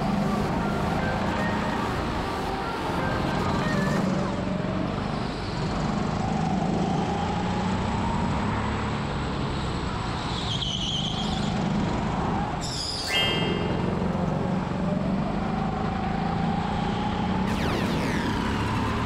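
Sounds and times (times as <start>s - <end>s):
go-kart engine drone: 0.0s - 10.2s, 10.8s - 19.0s.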